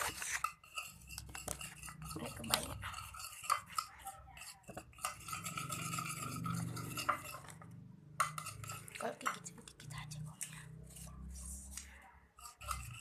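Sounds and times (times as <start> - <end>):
stirrer scraping a container: 0.0 - 13.0.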